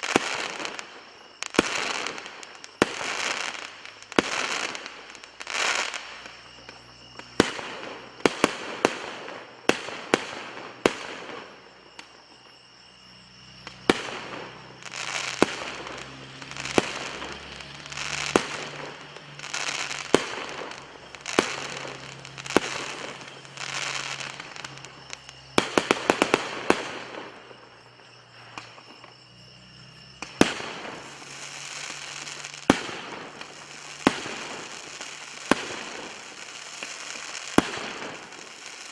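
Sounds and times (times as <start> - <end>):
fireworks bangs: 0.0 - 12.5, 13.6 - 29.2, 30.2 - 38.9
crackling hiss of bursting shells: 0.0 - 38.9.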